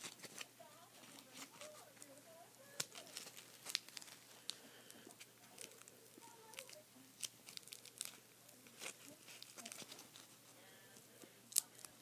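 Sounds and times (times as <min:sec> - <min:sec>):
tape crinkling: 0:00.0 - 0:12.0.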